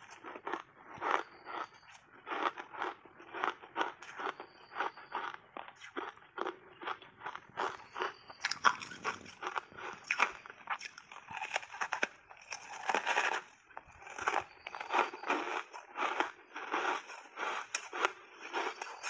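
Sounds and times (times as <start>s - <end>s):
crunching ice: 0.0s - 19.0s.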